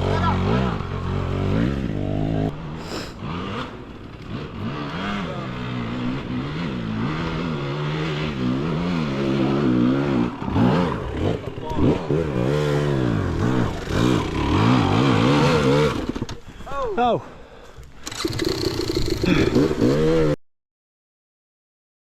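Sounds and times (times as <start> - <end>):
dirt bike engine revving: 0.0 - 16.4, 18.0 - 20.4.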